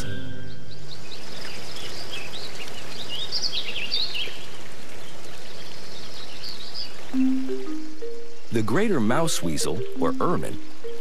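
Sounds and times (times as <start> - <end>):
birds chirping: 0.0 - 11.0
outdoor background hiss: 0.0 - 11.0.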